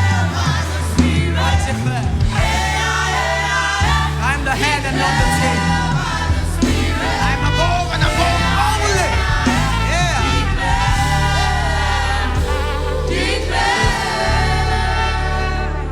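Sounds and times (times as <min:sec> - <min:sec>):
band accompaniment: 0:00.0 - 0:15.9
choir singing: 0:00.0 - 0:15.9
low keyboard and bass tones: 0:00.0 - 0:15.9.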